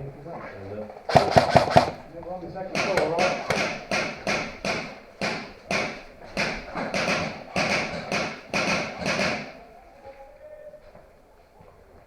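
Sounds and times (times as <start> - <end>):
footsteps close by: 0.2 - 12.0.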